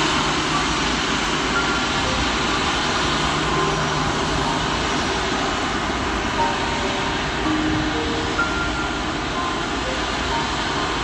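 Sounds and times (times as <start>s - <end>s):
jet airliners taxiing: 0.0s - 11.0s.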